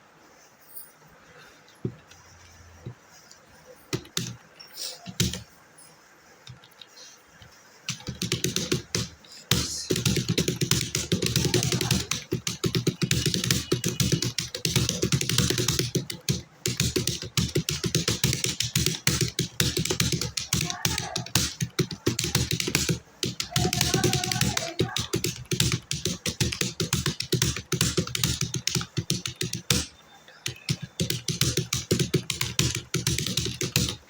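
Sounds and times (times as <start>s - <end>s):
fast typing on keyboard: 3.9s - 5.5s, 7.4s - 34.0s.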